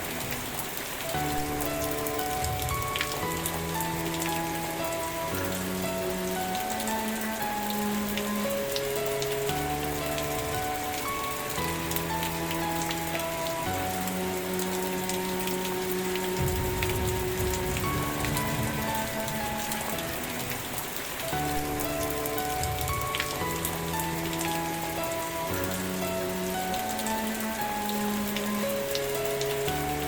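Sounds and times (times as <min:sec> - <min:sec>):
rain drop ticks: 0:00.0 - 0:30.0
rain falling: 0:00.0 - 0:30.0
soft music of held chords: 0:00.0 - 0:30.0.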